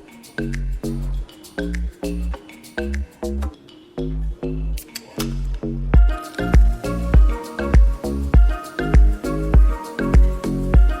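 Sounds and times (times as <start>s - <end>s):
music with deep bass beat: 0.0s - 11.0s.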